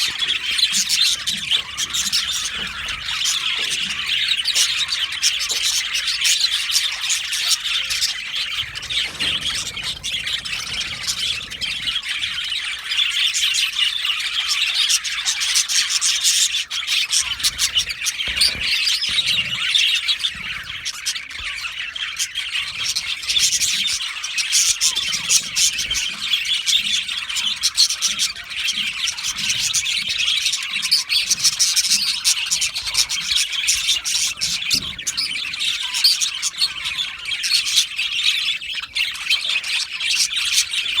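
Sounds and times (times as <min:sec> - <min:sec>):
budgies chirping and warbling: 0:00.0 - 0:41.0.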